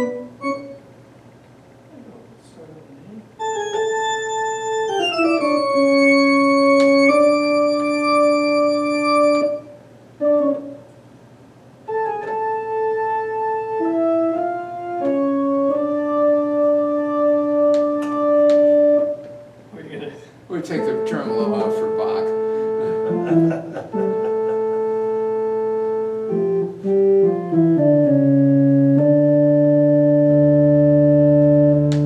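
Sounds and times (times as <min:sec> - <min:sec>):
electronic organ chords with tremolo: 0:00.0 - 0:01.3, 0:03.4 - 0:11.1, 0:11.8 - 0:19.7, 0:20.4 - 0:32.0.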